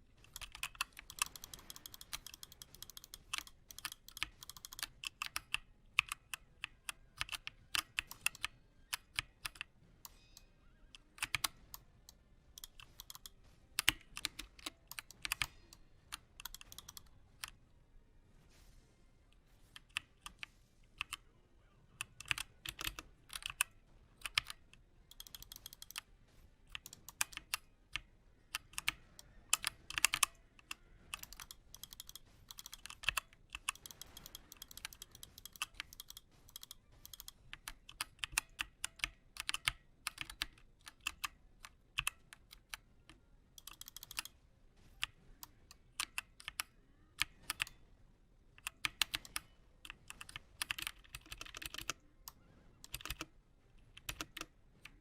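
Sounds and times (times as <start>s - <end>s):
mechanical keyboard key clicks: 0.2s - 17.6s, 22.0s - 26.1s, 26.7s - 47.8s, 48.6s - 55.0s.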